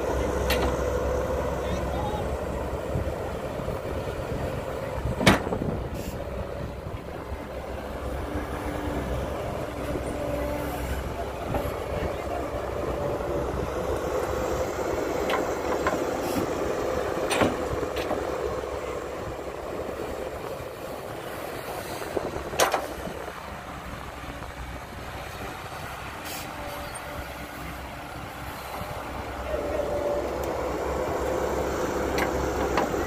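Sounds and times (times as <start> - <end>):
excavator engine droning: 0.0 - 33.0.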